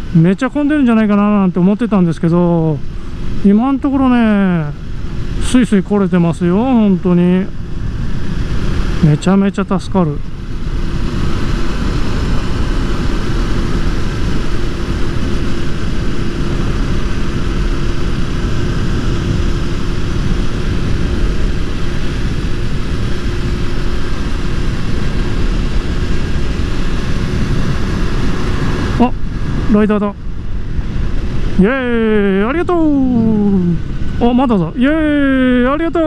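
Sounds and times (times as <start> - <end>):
motorcycle engine drone: 0.0 - 36.0
wind rushing over microphone: 0.0 - 36.0.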